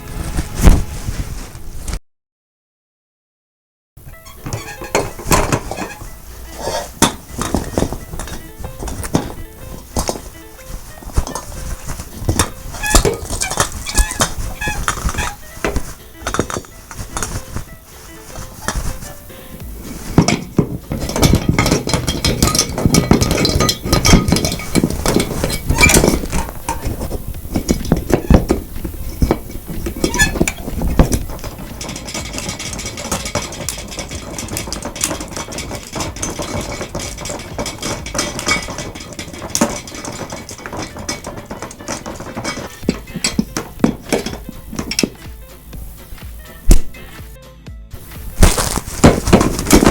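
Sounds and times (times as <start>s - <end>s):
clattering and clinking hits: 4.1s - 47.2s, 48.4s - 49.9s.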